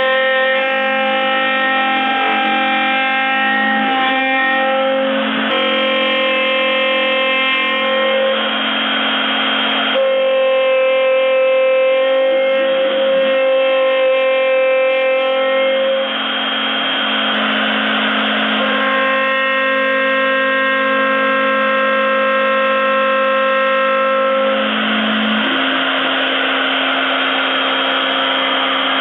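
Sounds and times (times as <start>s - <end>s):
router spindle cutting wood: 0.0s - 29.0s.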